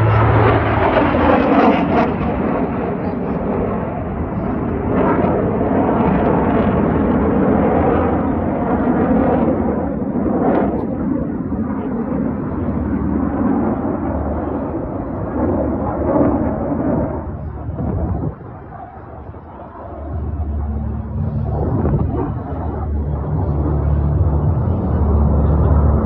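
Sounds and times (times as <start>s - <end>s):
jets flying overhead: 0.0s - 26.0s.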